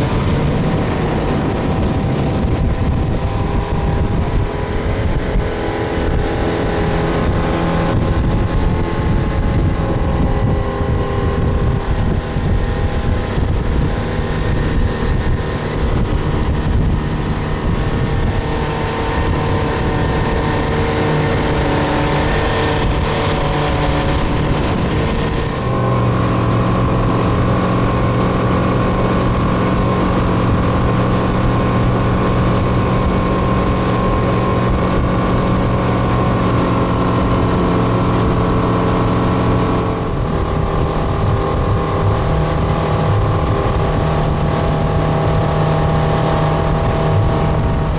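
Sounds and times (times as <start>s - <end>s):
motorboat engine running: 0.0s - 47.9s.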